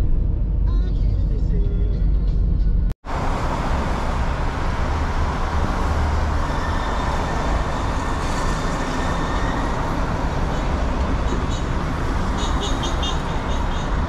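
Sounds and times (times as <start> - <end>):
cars and trucks driving past: 2.3 - 14.0.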